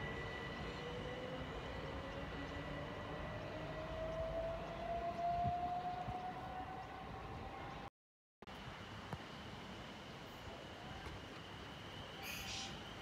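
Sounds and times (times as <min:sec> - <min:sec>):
train low rumble: 0:00.0 - 0:07.9, 0:08.5 - 0:13.0.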